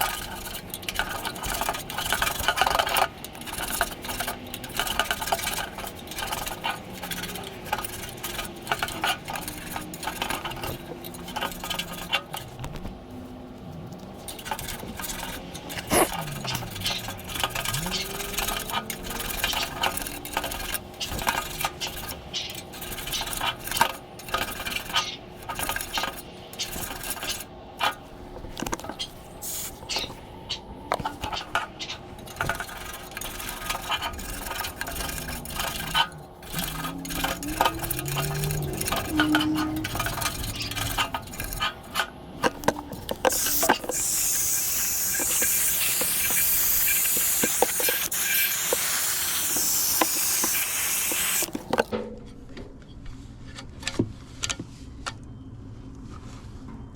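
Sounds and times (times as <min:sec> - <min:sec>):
metal clinks and scraping: 0:00.0 - 0:12.6, 0:14.1 - 0:52.0.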